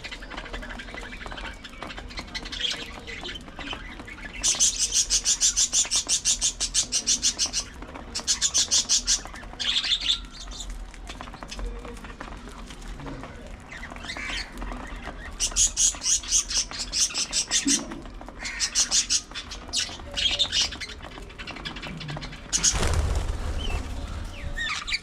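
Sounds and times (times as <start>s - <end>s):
budgerigars chirping and chattering: 0.0s - 12.4s, 13.6s - 25.0s.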